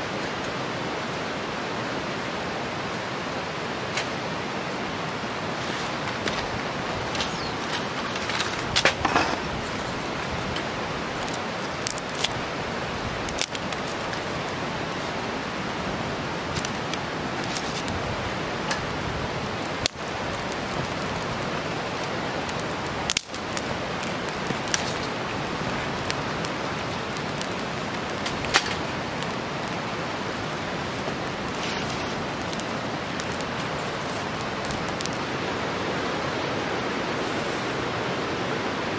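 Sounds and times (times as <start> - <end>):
fire crackles and pops: 0.0 - 36.4
campfire flames hissing: 0.0 - 38.9.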